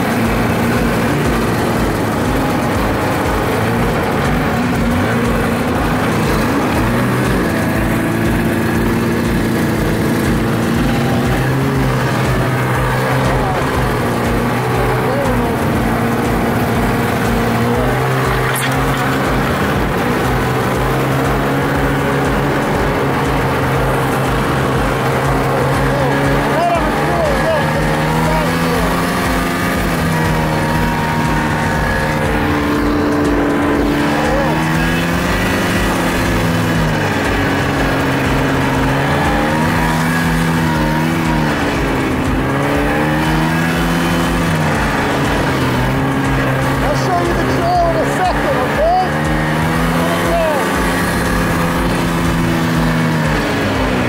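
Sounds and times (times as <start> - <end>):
snowmobile engine running: 0.0 - 54.0
steady rushing noise: 0.0 - 54.0.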